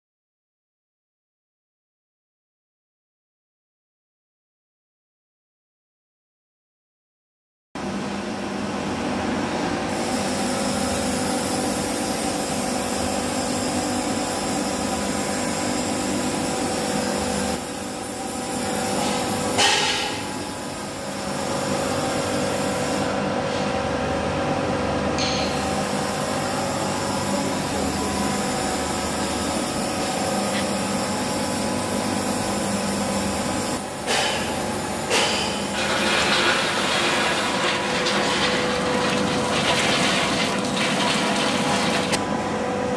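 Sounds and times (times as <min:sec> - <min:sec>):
garlic peeling machine hum: 0:07.8 - 0:42.9.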